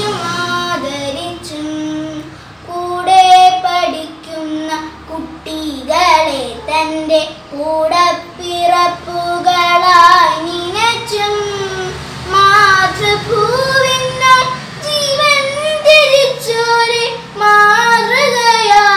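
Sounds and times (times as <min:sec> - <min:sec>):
girl singing unaccompanied: 0:00.0 - 0:18.9.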